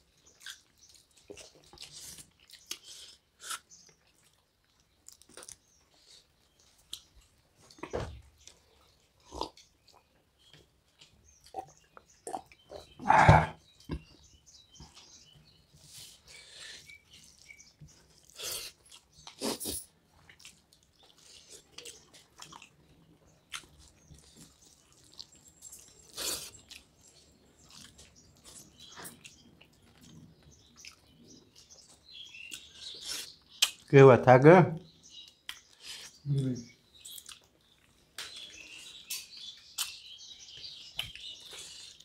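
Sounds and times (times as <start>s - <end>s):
chewing: 0.0s - 14.2s, 15.8s - 33.9s, 35.2s - 36.2s, 37.0s - 42.0s.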